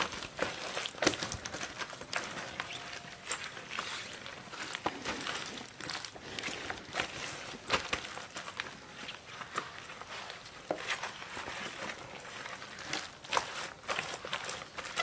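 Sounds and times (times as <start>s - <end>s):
cabbage leaves rustling: 0.0s - 15.0s.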